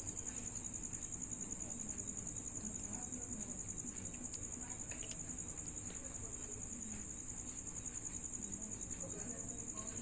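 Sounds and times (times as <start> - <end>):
cricket trilling: 0.0 - 10.0.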